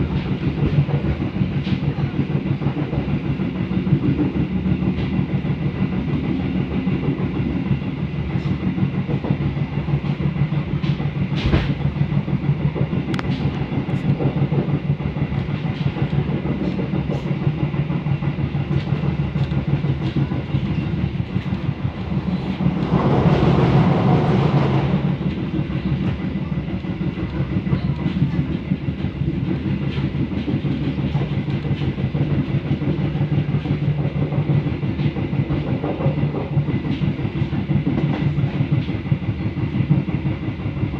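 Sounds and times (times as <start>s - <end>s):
train rumbling on tracks: 0.0s - 40.9s.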